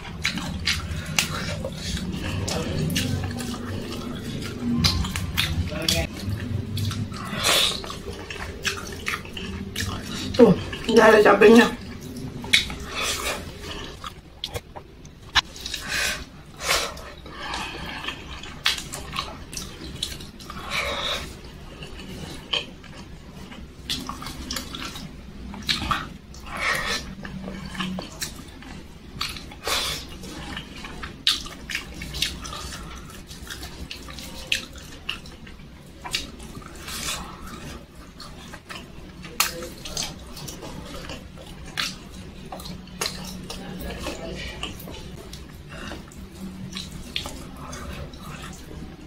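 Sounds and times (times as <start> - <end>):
person chewing wet food: 0.0 - 49.0.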